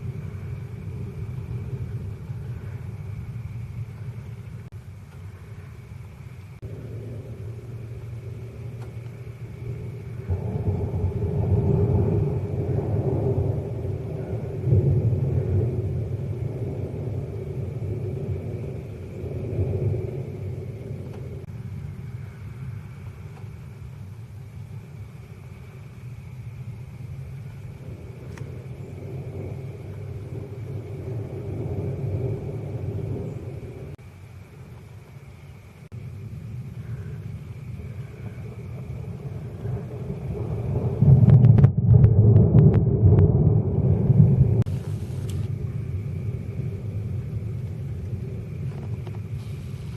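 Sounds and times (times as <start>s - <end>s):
rolling thunder: 0.0s - 49.9s.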